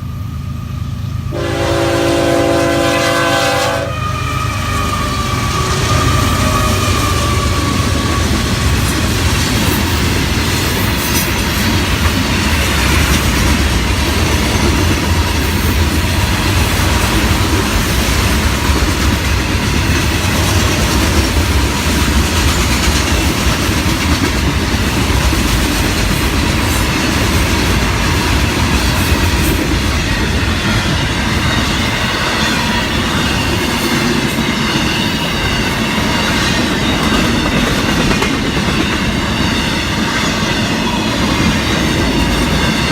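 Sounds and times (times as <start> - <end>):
train wheels rumbling on rails: 0.0 - 42.9
clickety-clack over rail joints: 5.5 - 42.9.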